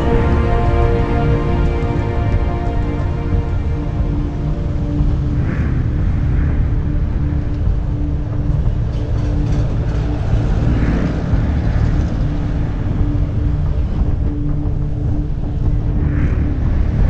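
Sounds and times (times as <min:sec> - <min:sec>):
road traffic passing: 0:00.0 - 0:17.0
wind on microphone: 0:00.0 - 0:17.0.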